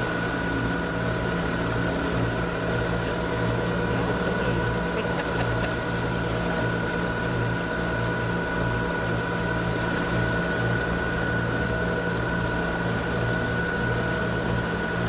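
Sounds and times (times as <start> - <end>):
motorboat engine humming: 0.0 - 15.0
water rushing from wake: 0.0 - 15.0.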